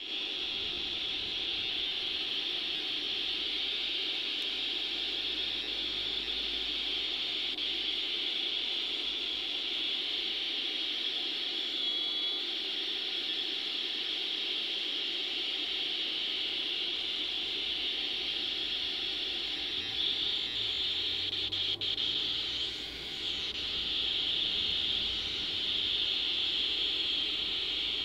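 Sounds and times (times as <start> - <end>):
electronic whine over low drone: 0.0 - 28.0.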